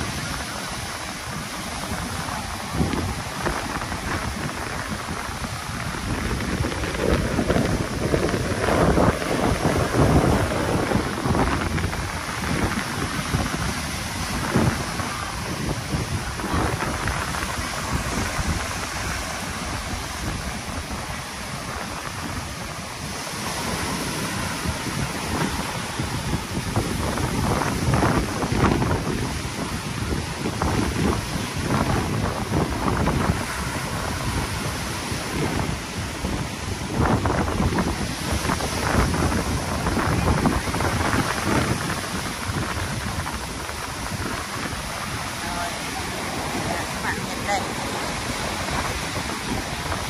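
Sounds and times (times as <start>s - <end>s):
sea waves breaking on beach: 0.0s - 50.0s
wind on microphone: 0.0s - 50.0s.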